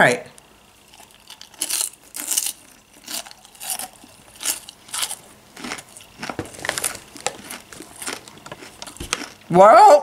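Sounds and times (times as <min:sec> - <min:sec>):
person chewing crunchy popcorn: 0:00.7 - 0:09.5.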